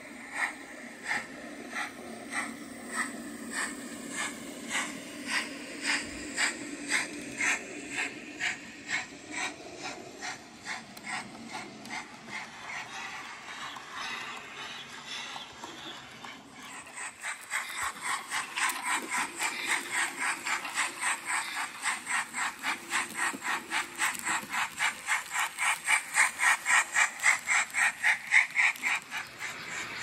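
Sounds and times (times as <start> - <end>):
model steam locomotive chuffing: 0.0 - 30.0.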